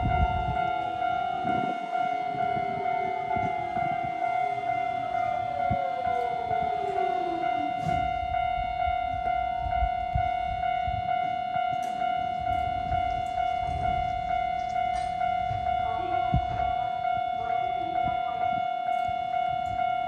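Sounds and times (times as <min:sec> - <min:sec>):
train falling whine: 0:00.0 - 0:17.9
level-crossing alarm ringing: 0:00.0 - 0:20.0
train wheels rumbling on track: 0:00.0 - 0:20.0.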